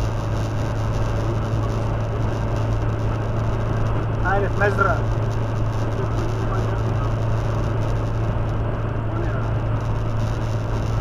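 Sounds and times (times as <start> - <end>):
car engine hum: 0.0 - 11.0
tyre and road noise: 0.0 - 11.0.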